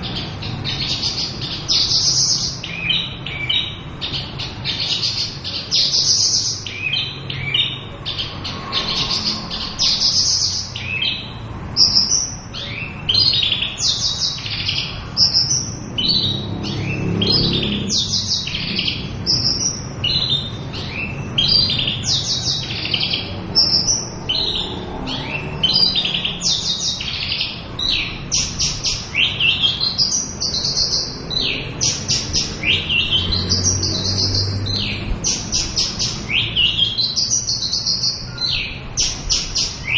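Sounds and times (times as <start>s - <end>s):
bird singing fast chirps: 0.0s - 39.9s.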